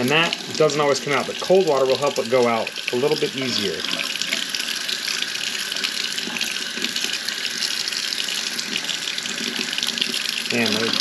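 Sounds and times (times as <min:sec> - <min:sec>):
faucet water splashing into sink: 0:00.0 - 0:11.0.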